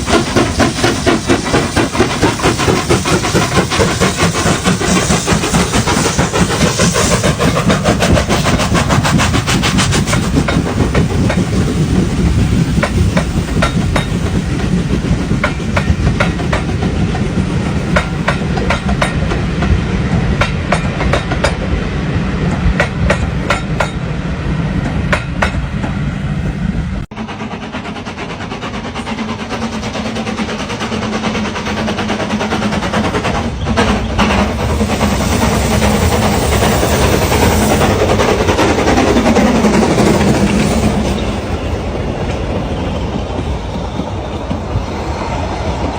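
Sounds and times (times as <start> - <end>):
train wheels clacking: 0.0 - 21.8, 22.4 - 26.2, 27.0 - 45.9
heavy train rumble: 0.0 - 45.9.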